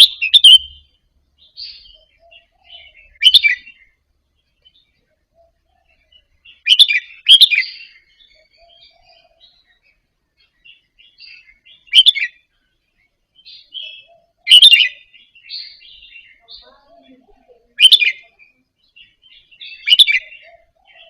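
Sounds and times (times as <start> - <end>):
bird song phrases: 0.0 - 21.0
soft bird twittering: 0.0 - 21.0.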